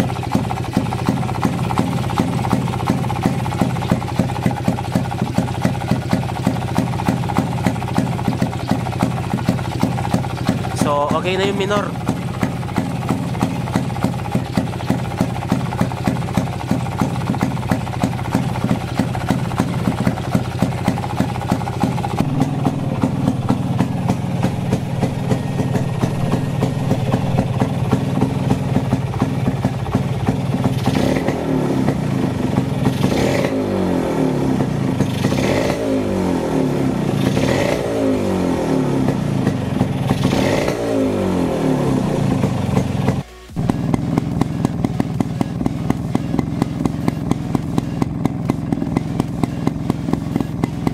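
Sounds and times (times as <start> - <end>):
two-stroke engine idling and revving: 0.0 - 50.9.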